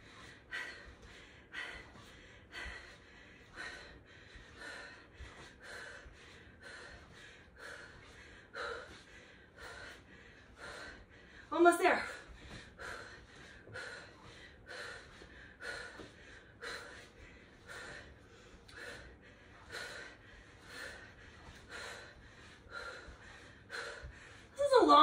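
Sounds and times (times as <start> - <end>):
woman breathing hard: 0.0 - 24.6.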